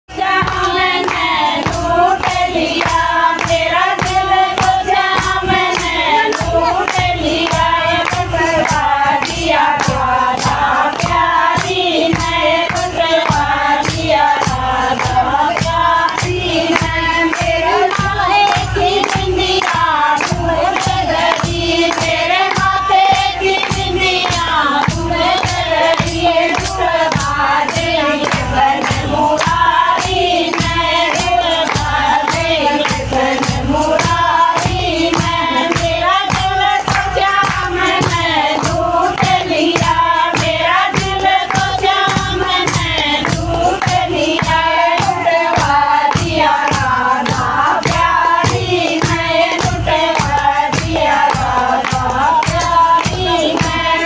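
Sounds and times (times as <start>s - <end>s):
rhythmic hand claps: 0.1s - 54.0s
women singing together: 0.1s - 54.0s.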